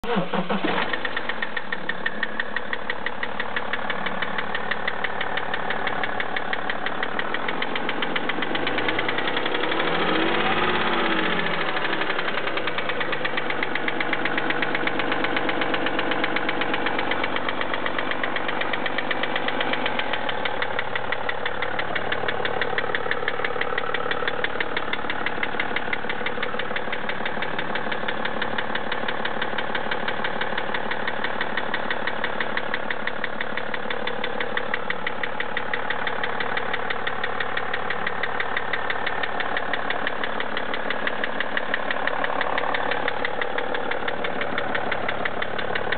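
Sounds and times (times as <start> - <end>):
diesel engine clacking and rattling: 0.0 - 45.9.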